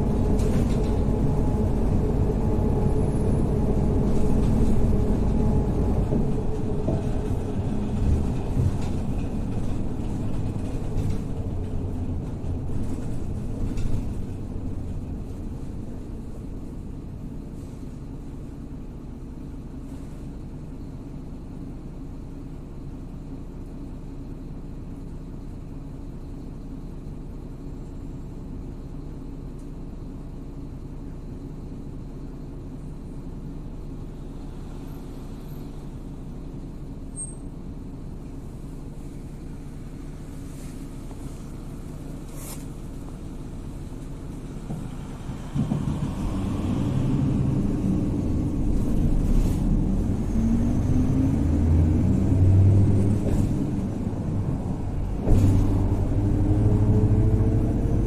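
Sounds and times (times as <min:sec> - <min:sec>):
bus engine and road rumble: 0:00.0 - 0:58.0
bus engine idling hum: 0:00.0 - 0:58.0.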